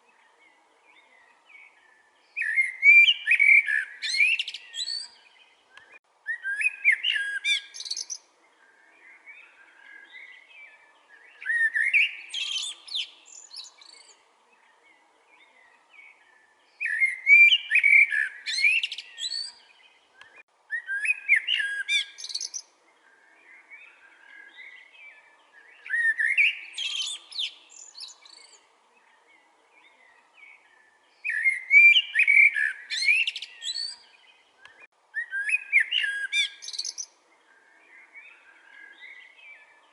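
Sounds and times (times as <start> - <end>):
blackbird singing: 0.0 - 39.9.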